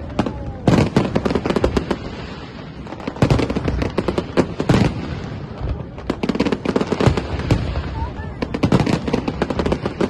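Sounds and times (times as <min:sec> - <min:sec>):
fireworks cracking and banging: 0:00.0 - 0:10.0.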